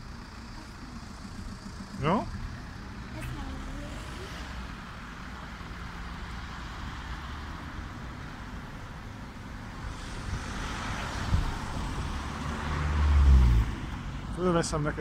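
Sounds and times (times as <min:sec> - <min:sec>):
car passing on road: 0:00.0 - 0:15.0.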